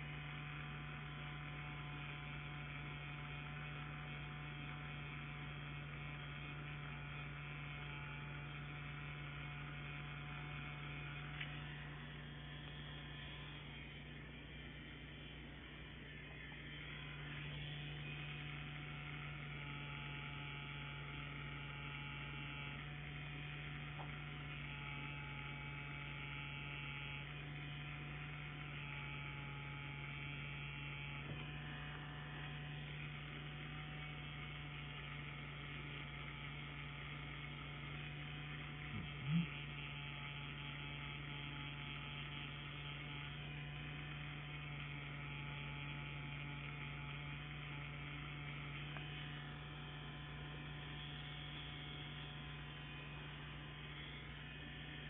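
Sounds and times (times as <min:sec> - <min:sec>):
tattoo pen humming: 0:00.0 - 0:55.0.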